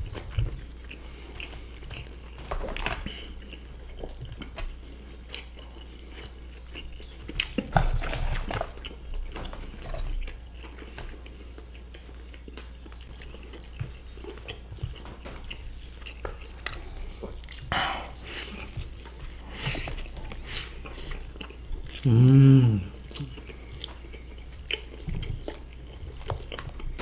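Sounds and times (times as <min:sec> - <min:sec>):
chewing and biting fries: 0:00.0 - 0:27.0
low steady hum: 0:00.0 - 0:27.0.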